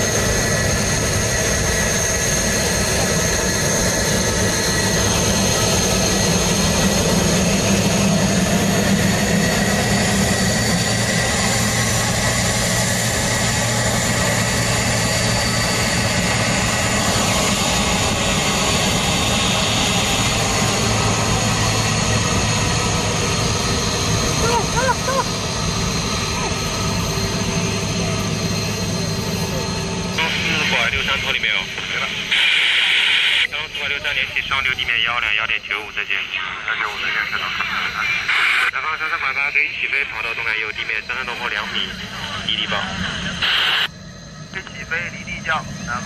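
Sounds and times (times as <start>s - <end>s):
jet airliner engine drone: 0.0s - 46.0s.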